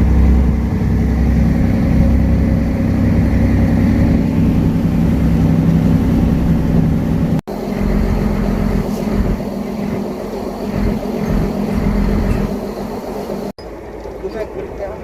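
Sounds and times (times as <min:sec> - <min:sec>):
engine running: 0:00.0 - 0:15.0
light rumble: 0:00.0 - 0:15.0.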